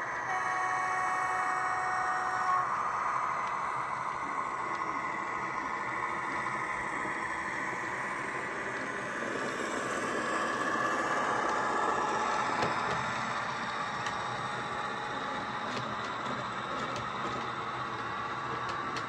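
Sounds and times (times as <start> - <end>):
model train diesel engine sound: 0.0 - 19.0.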